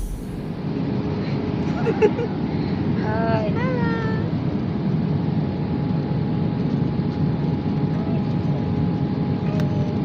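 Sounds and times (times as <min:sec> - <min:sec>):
airliner engines roaring: 0:00.0 - 0:10.0.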